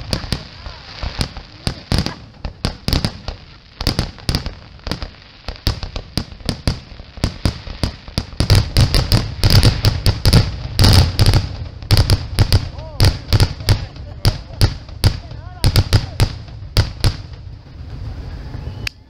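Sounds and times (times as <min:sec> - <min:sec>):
fireworks bangs and booms: 0:00.0 - 0:18.8.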